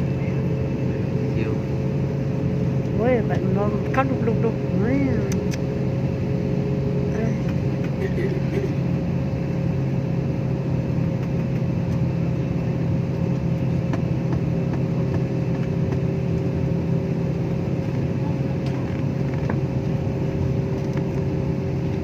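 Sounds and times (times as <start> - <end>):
machine droning: 0.0 - 22.0.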